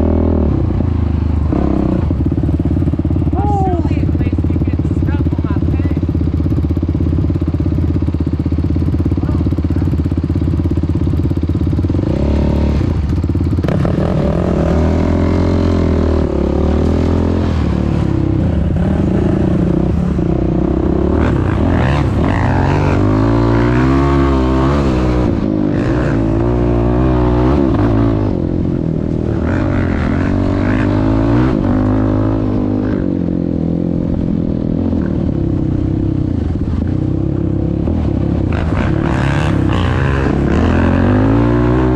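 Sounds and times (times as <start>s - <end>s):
quad engine revving: 0.0s - 41.9s.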